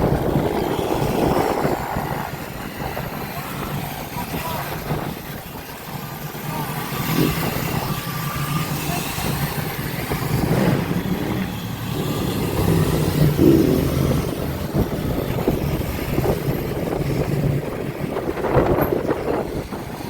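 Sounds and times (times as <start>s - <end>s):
motorbike engines revving: 0.0s - 20.0s.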